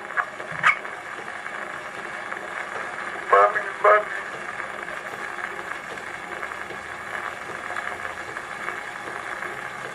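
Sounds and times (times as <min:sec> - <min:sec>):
archival recording hiss: 0:00.0 - 0:09.9.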